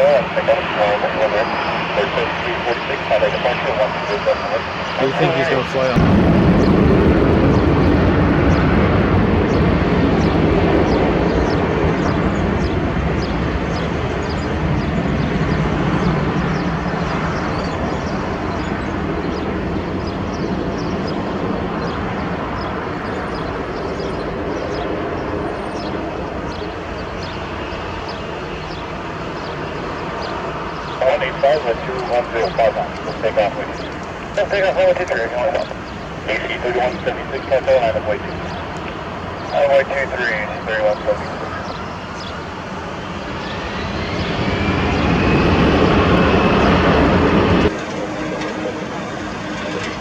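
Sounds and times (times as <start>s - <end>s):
jet engines at takeoff: 0.0s - 50.0s.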